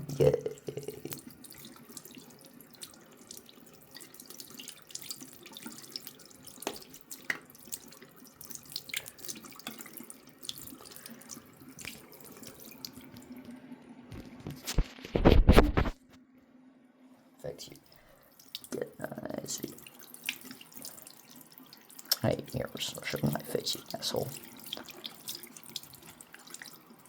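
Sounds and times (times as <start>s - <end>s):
water drips and splashes: 0.9s - 13.6s, 17.6s - 27.0s
tap water trickling into sink: 1.0s - 13.6s, 17.7s - 27.0s.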